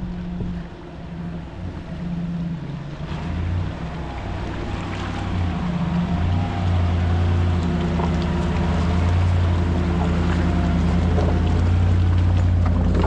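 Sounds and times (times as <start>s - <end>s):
vehicle engine humming: 0.0s - 13.0s
water noise: 0.0s - 13.0s.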